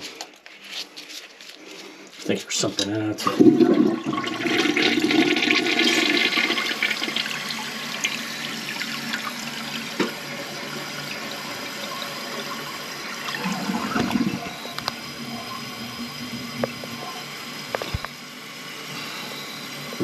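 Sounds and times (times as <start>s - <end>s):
toilet flushing: 3.1s - 20.0s.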